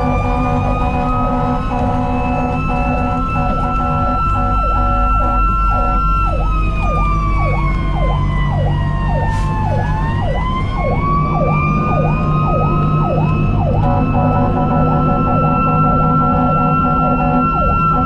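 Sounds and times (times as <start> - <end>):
cycling siren: 0.0 - 18.0
siren wail: 0.0 - 18.0
truck engine hum: 0.0 - 18.0.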